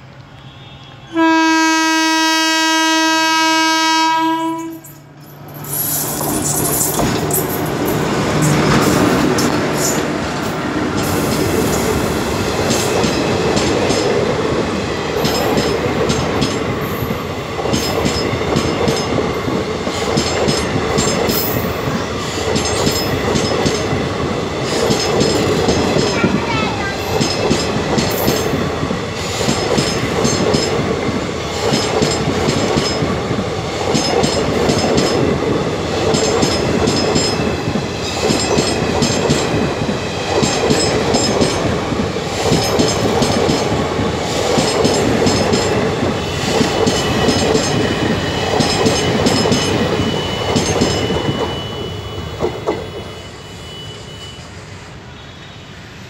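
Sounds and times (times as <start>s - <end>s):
train wheels clickety-clack: 4.5s - 53.2s.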